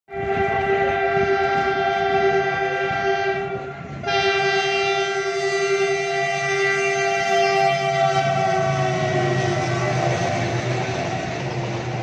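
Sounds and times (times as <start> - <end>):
train horn: 0.1 - 11.2.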